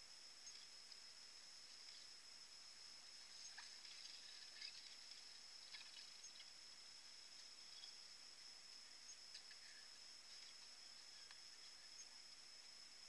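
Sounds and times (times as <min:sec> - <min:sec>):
faint high-pitched hiss: 0:00.0 - 0:13.0
faint ticks: 0:00.4 - 0:02.2, 0:03.2 - 0:12.8.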